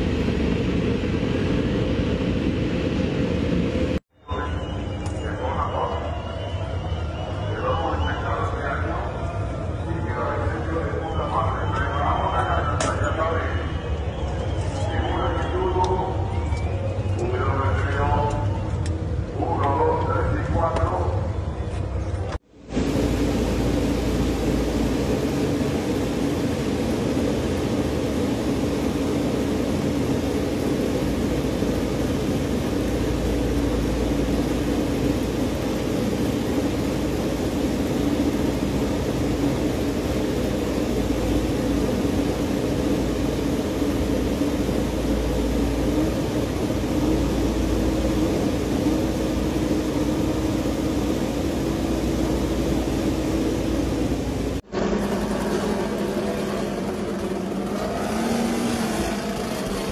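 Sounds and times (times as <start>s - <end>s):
engine droning hum: 0.0s - 59.9s.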